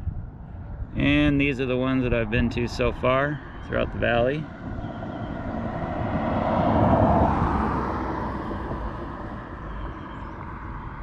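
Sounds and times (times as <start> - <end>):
vehicle passing: 2.2 - 11.0.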